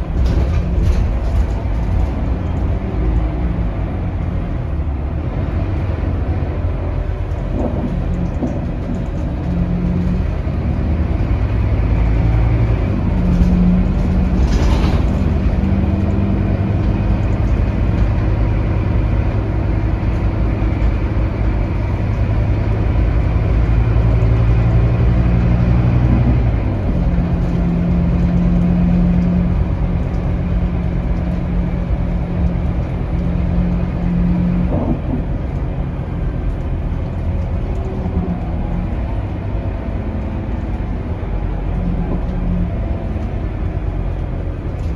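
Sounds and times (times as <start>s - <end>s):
bus diesel engine drone: 0.0s - 44.9s.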